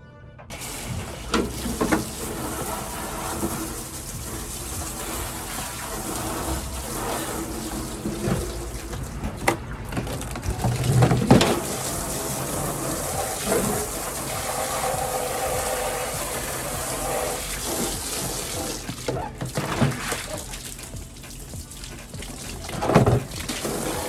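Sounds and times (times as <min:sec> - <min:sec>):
tap water running and splashing: 0:00.5 - 0:24.0.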